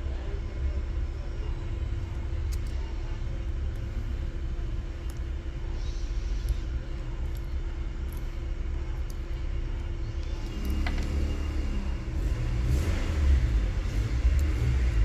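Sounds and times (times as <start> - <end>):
low motor rumble: 0.0 - 15.0.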